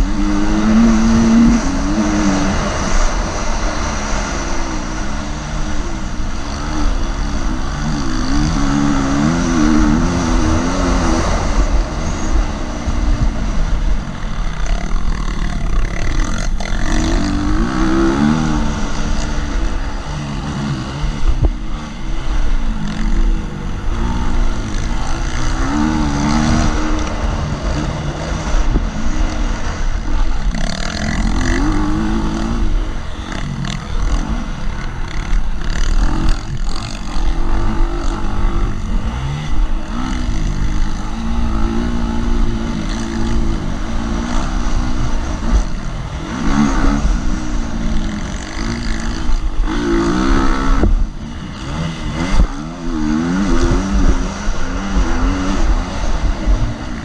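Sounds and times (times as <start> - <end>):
constant low rumble: 0.0 - 57.0
motorcycle engine revving: 0.0 - 57.0.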